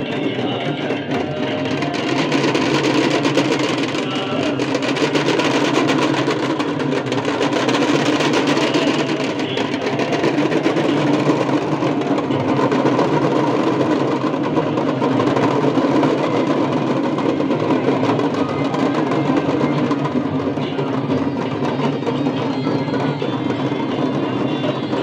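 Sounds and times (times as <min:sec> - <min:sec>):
drumming: 0:00.0 - 0:25.0
large crowd noise: 0:00.0 - 0:25.0.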